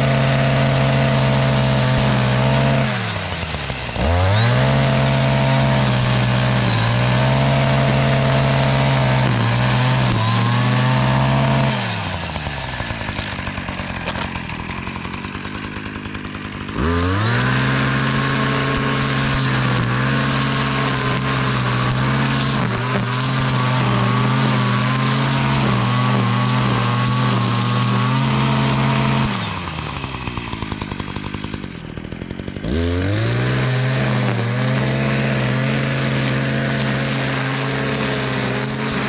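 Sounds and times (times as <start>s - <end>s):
string trimmer engine: 0.0s - 39.0s.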